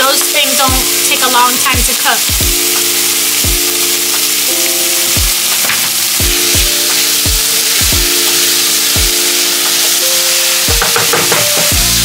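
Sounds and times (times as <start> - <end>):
background music with drum beat: 0.0 - 1.1, 1.7 - 12.0
vegetables sizzling in oil: 0.0 - 12.0.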